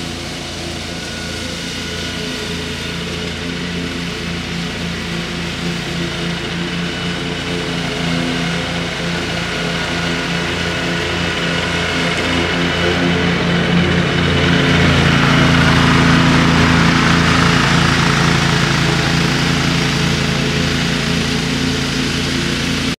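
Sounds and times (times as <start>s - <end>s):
ride-on mower engine running: 0.0s - 23.0s.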